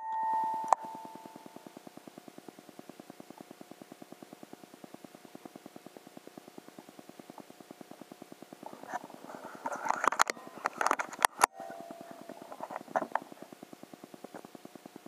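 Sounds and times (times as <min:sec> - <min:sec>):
rapid buzzy ticking: 0:00.6 - 0:15.0.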